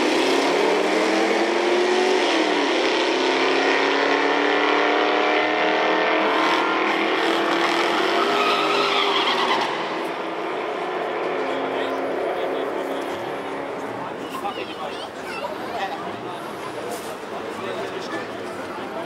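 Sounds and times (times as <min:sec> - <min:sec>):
racing car engines accelerating: 0:00.0 - 0:19.0.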